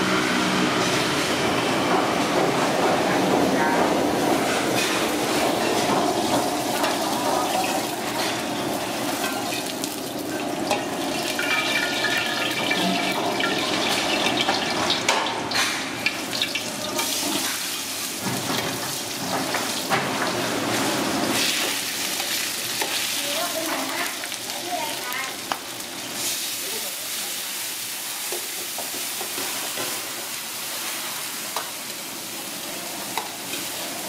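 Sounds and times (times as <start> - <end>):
food sizzling in a pan: 4.8 - 34.0.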